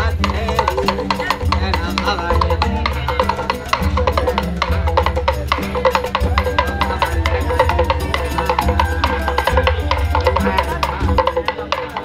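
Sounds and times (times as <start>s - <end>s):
fast drum beat: 0.0s - 12.0s
pulsing bass line: 0.0s - 12.0s.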